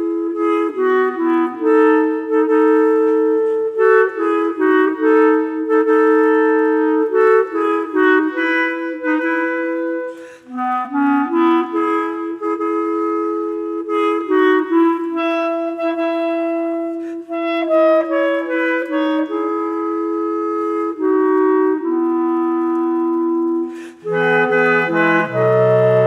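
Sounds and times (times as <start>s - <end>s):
clarinets playing in harmony: 0.0s - 26.0s.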